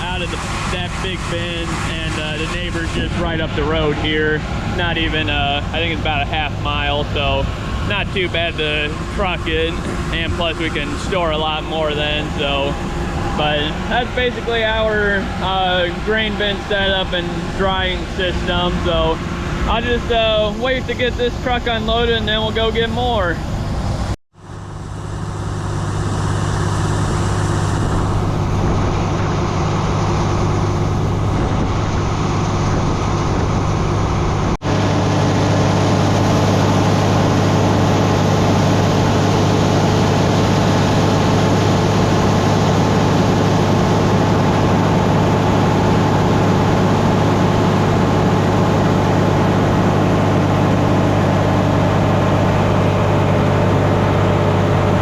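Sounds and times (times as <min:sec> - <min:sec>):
constant rushing noise: 0:00.0 - 0:55.0
heavy farm machinery humming: 0:00.0 - 0:55.0.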